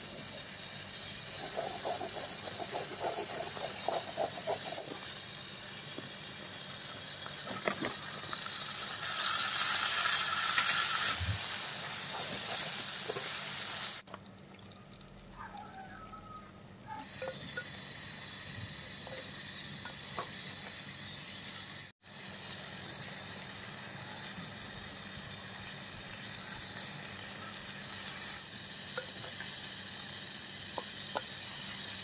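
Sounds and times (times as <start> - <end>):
chicken sizzling in hot oil: 0.0 - 32.0
onions frying: 0.3 - 32.0.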